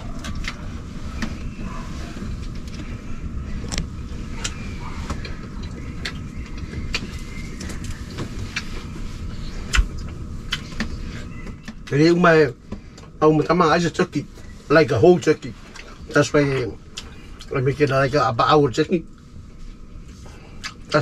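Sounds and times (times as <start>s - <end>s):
low machine rumble: 0.0s - 21.0s.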